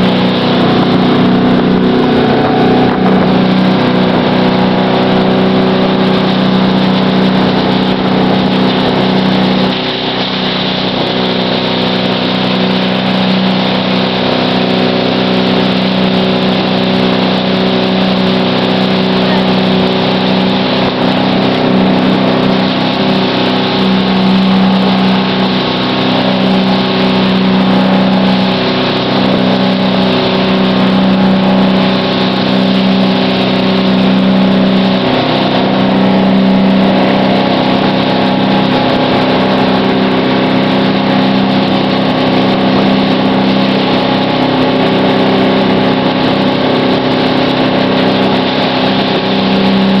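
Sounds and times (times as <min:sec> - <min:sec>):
boat engine droning: 0:00.0 - 0:50.0.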